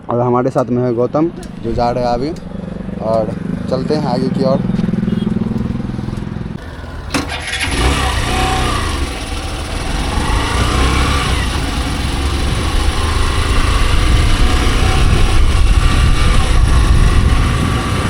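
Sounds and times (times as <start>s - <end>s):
wind and road noise: 0.0s - 18.0s
motorcycle engine pulling away: 1.4s - 18.0s.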